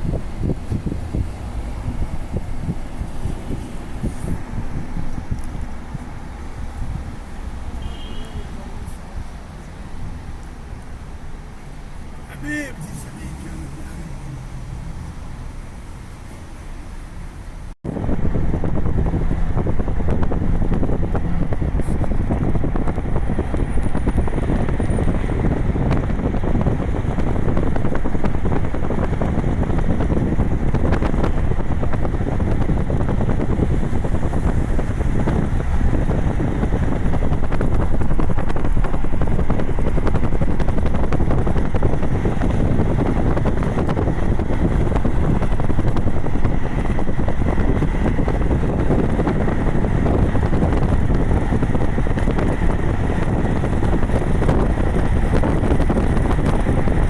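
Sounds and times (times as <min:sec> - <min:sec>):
wind buffeting microphone: 0:00.0 - 0:12.2, 0:13.2 - 0:57.0.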